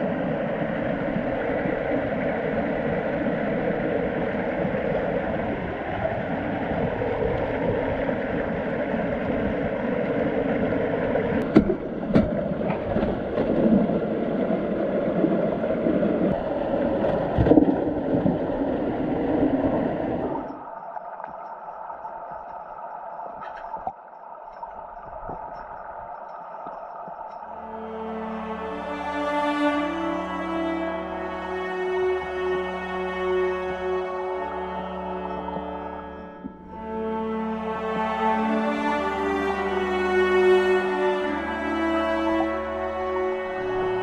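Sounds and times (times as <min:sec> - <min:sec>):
water rushing through channel: 0:00.0 - 0:44.0.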